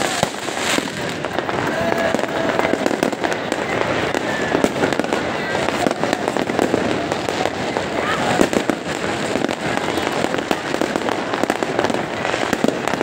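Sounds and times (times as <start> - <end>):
crowd voices: 0.0 - 13.0
fireworks bangs and crackles: 0.0 - 13.0.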